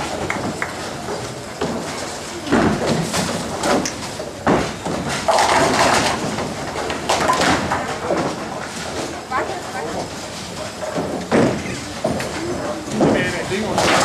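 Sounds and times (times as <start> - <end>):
bowling ball rolling: 0.0 - 14.0
bowling pins clattering: 0.0 - 14.0.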